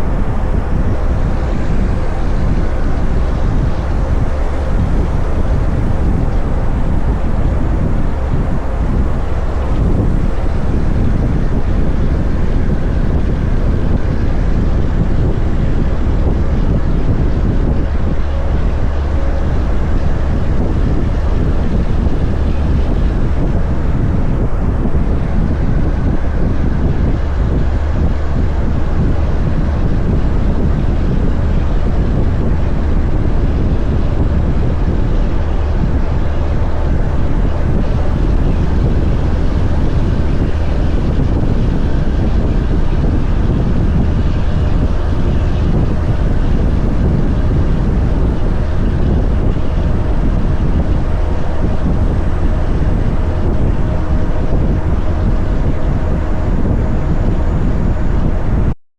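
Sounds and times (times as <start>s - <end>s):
faint steady whine: 0.0s - 58.8s
road and wind noise: 0.0s - 58.8s
truck engine drone: 0.0s - 58.8s.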